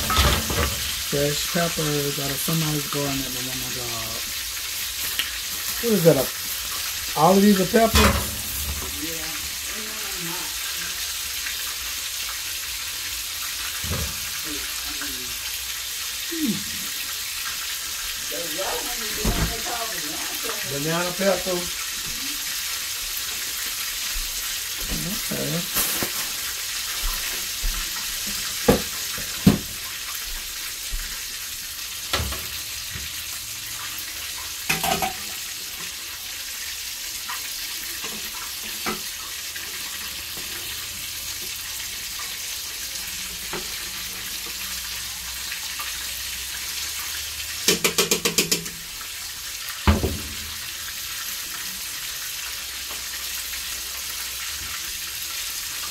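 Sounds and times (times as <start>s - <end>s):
chicken frying in hot oil: 0.0s - 55.9s.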